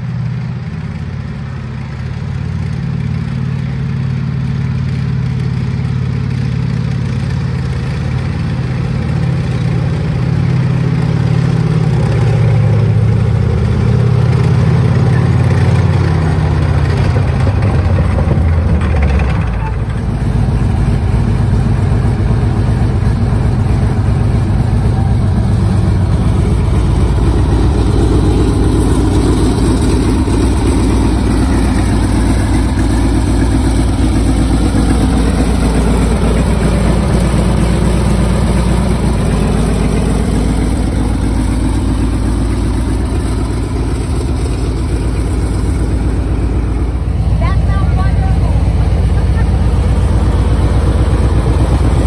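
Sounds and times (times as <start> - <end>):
radial engine idling loudly: 0.0 - 52.0.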